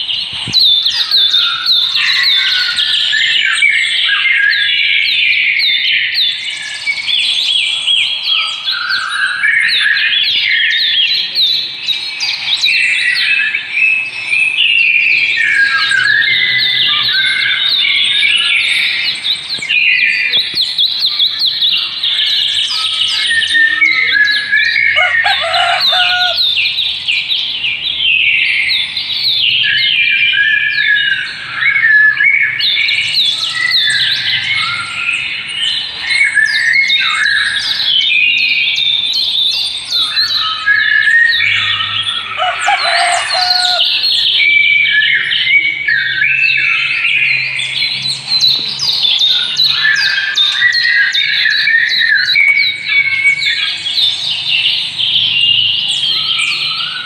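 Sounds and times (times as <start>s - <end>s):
lower bird call: 0.0s - 57.0s
small birds chirping: 0.0s - 57.0s.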